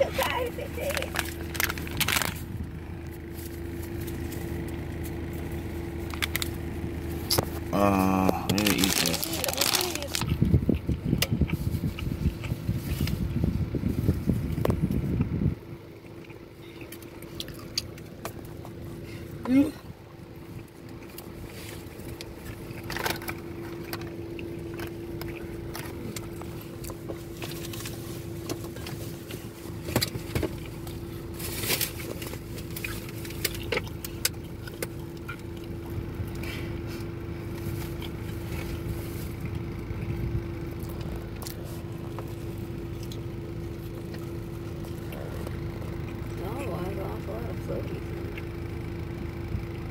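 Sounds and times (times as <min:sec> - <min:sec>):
car cabin hum: 0:00.0 - 0:49.9
crunchy food being chewed: 0:00.8 - 0:19.1, 0:20.2 - 0:46.4.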